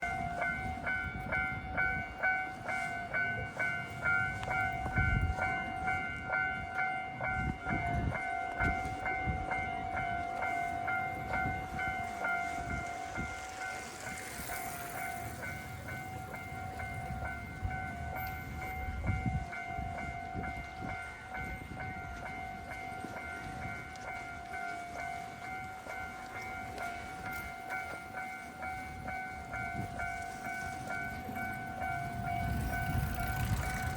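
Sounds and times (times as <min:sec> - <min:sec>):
level-crossing warning bell: 0:00.0 - 0:33.9
streetcar rumbling: 0:00.0 - 0:33.9.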